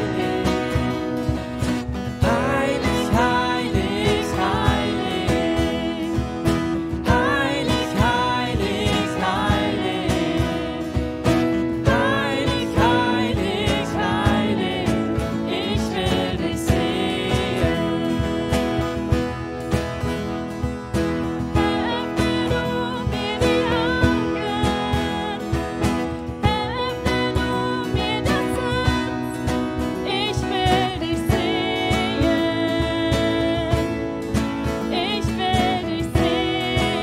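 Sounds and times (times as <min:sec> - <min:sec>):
woman singing: 0:00.0 - 0:01.4, 0:02.2 - 0:19.4, 0:21.4 - 0:37.0
acoustic guitar strummed: 0:00.0 - 0:37.0.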